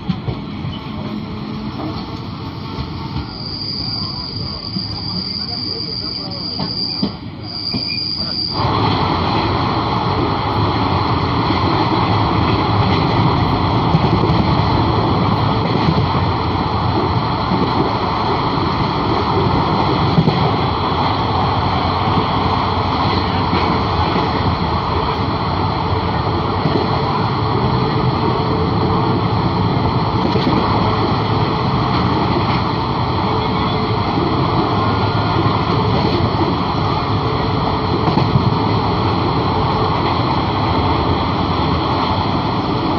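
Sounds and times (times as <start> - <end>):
train wheels rolling on rails: 0.0 - 42.9.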